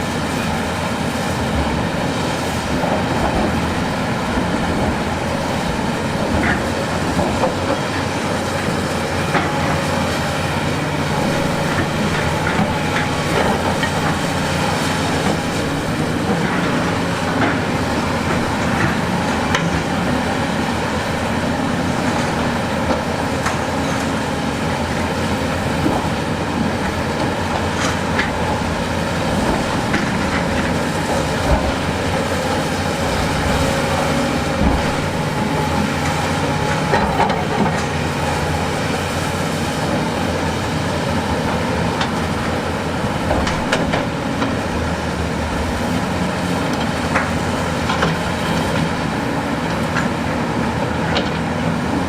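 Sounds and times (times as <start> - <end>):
diesel machinery running: 0.0 - 52.0.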